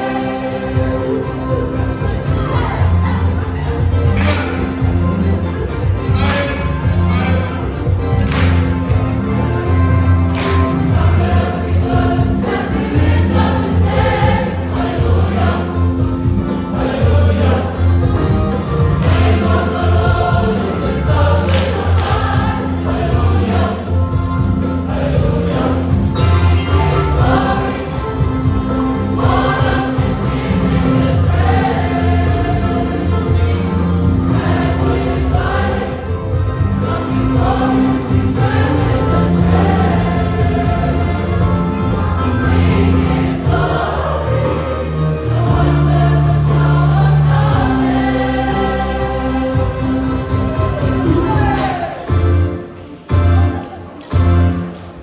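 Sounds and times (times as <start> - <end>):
choir singing a hymn: 0.0 - 52.8.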